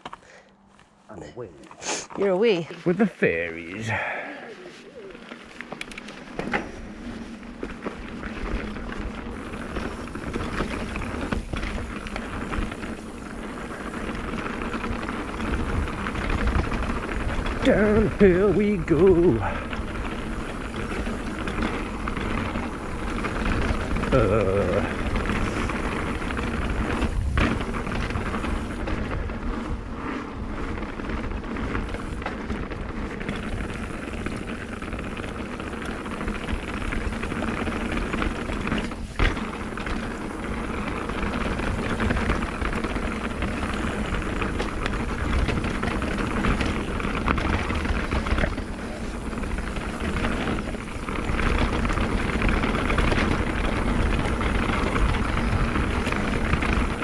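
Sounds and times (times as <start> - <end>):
bike tyre noise on dirt: 0.0 - 57.0
bike rattling: 2.1 - 57.0
wind buffeting microphone: 8.7 - 57.0.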